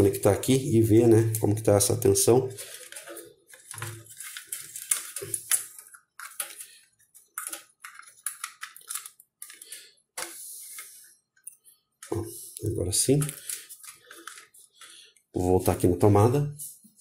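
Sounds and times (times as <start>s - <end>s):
cables and connectors handled: 0.0s - 15.8s.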